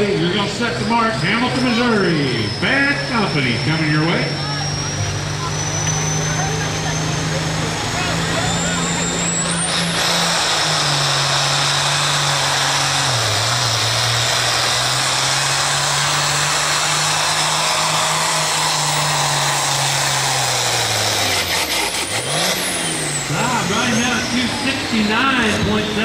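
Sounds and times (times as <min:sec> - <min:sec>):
diesel engine under full load: 0:00.0 - 0:26.0.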